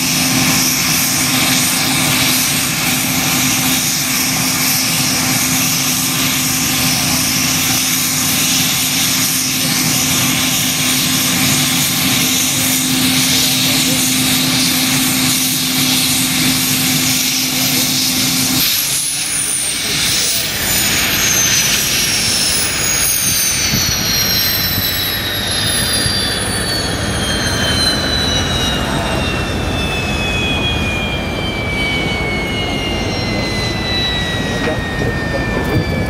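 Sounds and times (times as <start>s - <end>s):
turbine whines falling in pitch: 0.0s - 36.0s.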